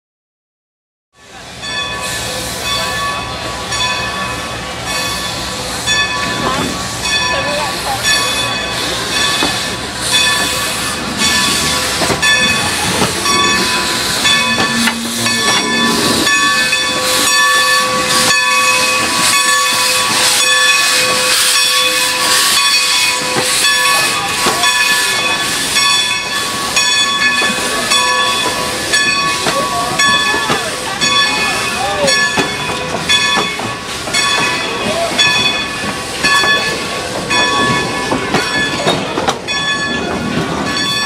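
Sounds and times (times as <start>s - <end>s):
steam locomotive hissing steam: 1.2s - 41.0s.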